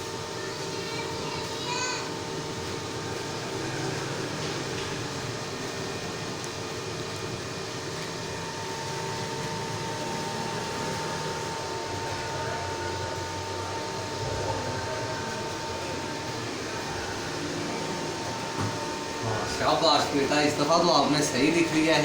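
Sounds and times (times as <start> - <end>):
mechanical hum and hiss: 0.0 - 22.0.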